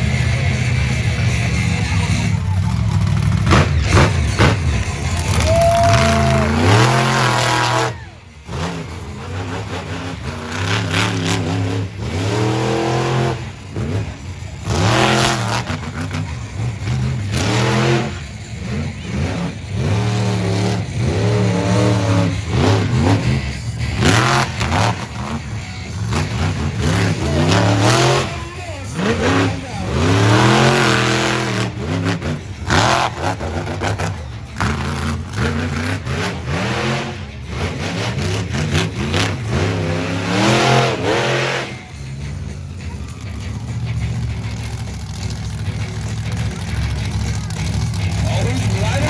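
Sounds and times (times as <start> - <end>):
monster truck engine revving: 0.0 - 49.0.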